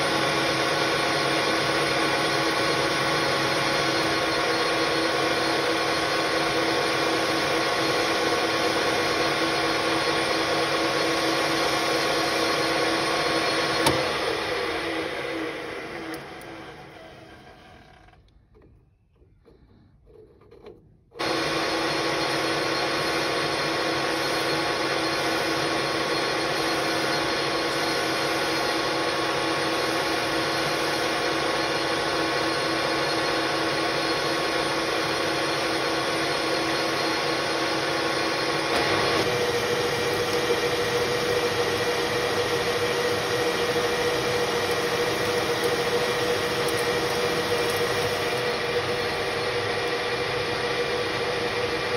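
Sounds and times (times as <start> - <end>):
lathe running: 0.0 - 18.2, 21.2 - 51.9.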